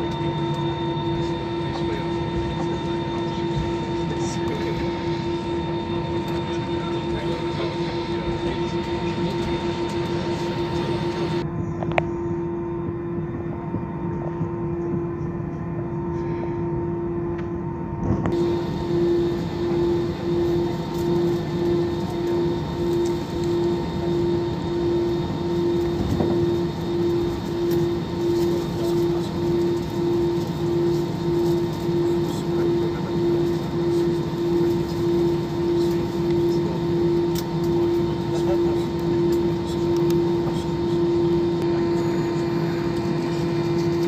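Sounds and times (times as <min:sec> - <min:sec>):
jet engines humming: 0:00.0 - 0:44.0.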